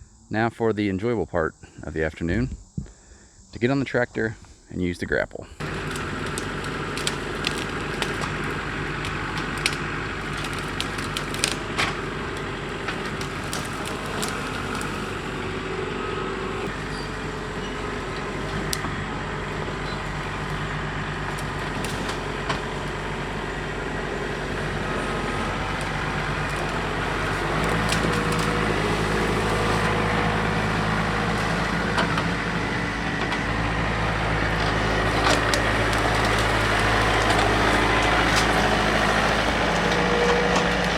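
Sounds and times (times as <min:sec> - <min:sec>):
tractor diesel engine running: 0:02.9 - 0:40.9.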